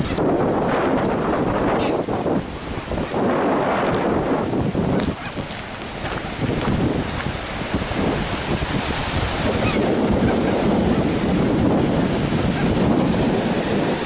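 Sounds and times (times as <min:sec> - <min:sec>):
surf breaking on a beach: 0:00.0 - 0:14.0
wind buffeting microphone: 0:00.0 - 0:14.0.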